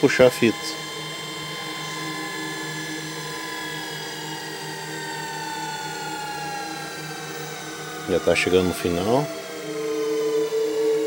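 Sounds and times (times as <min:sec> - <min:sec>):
motor and reel whine: 0:00.0 - 0:11.0.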